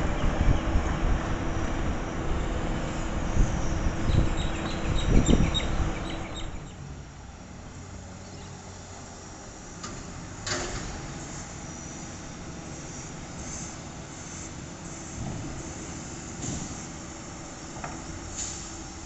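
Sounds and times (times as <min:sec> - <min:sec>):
garbage truck diesel engine: 0:00.0 - 0:19.0.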